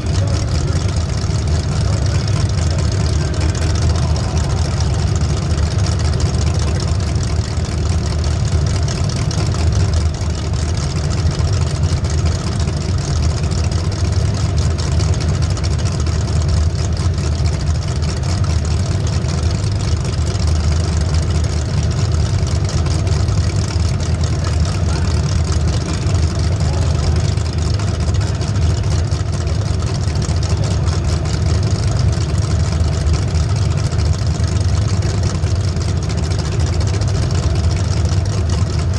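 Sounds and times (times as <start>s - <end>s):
race car engine rumbling: 0.0s - 38.9s.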